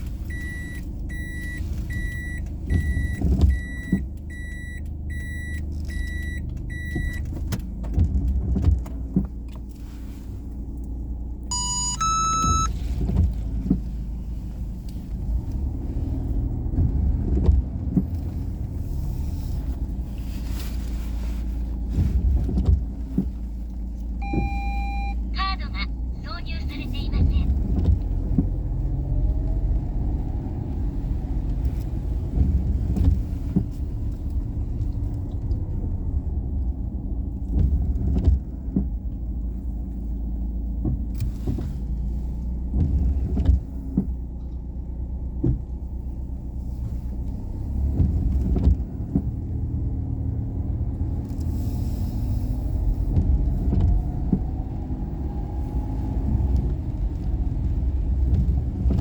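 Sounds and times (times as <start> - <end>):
car engine rumbling: 0.0 - 59.0
road noise: 0.0 - 59.0.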